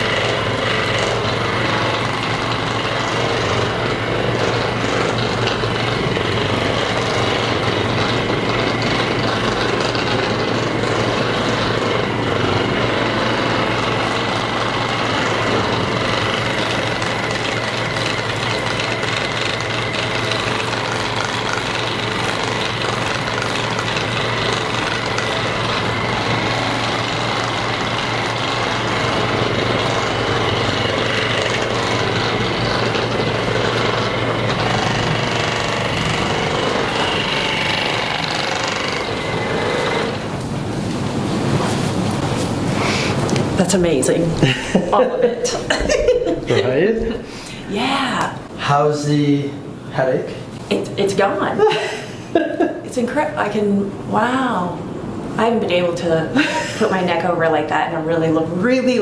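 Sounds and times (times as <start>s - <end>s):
massage gun buzzing: 0.0s - 40.6s, 41.4s - 49.1s.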